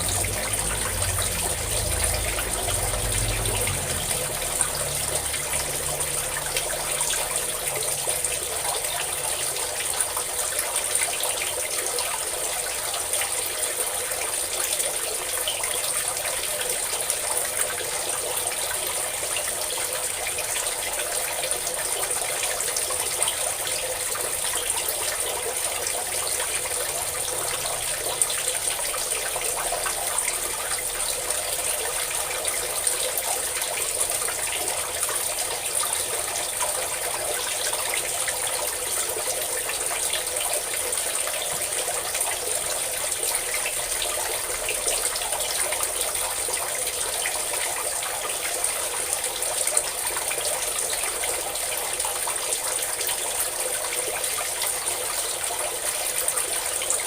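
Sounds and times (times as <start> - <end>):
water pouring and splashing: 0.0 - 57.0.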